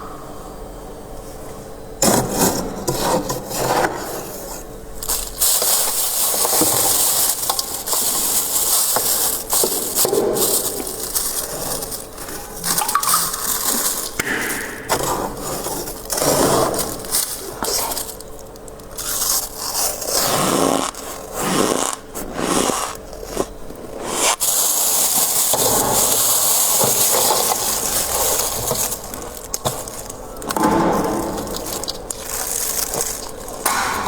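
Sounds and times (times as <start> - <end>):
frost being scraped and crunched: 2.1 - 34.0
steady scraping hiss: 2.4 - 34.0.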